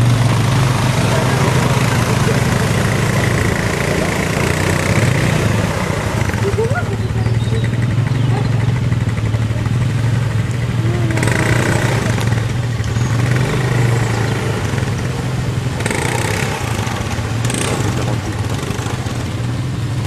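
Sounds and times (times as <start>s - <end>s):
quad bike engines running: 0.0s - 20.0s
water splashing around wheels: 0.0s - 20.0s.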